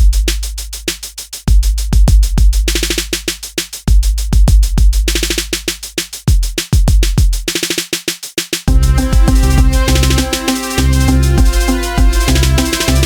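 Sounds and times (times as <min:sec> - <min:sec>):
electronic music with drum-machine beat: 0:00.0 - 0:13.0.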